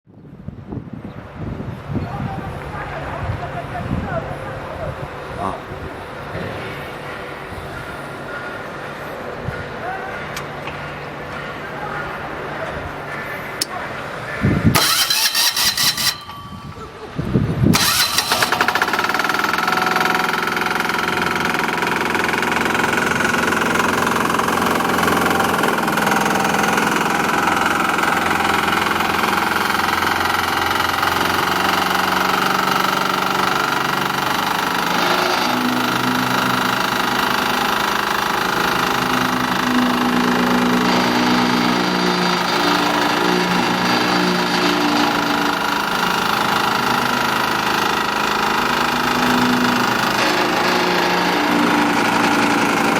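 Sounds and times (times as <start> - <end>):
road roller engine starting and running: 4.4 - 52.9.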